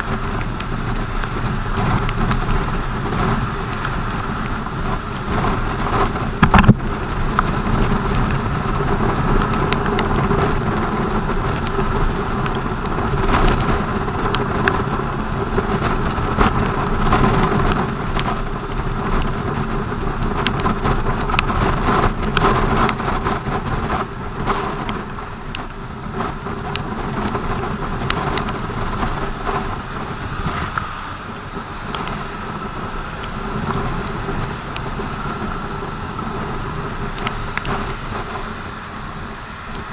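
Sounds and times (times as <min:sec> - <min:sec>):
road and wind noise: 0:00.0 - 0:39.9
sharp ticks: 0:00.0 - 0:39.9.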